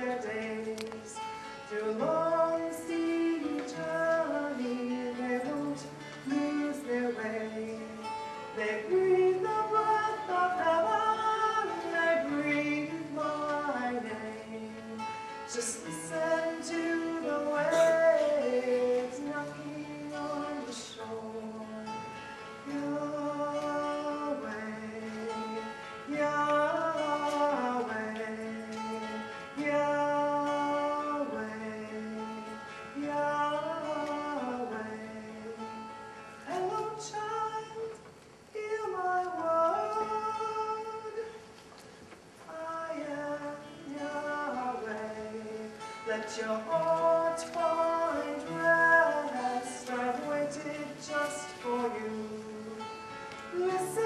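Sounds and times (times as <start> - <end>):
woman singing: 0.0 - 41.4, 42.5 - 54.0
acoustic guitar: 0.0 - 54.0.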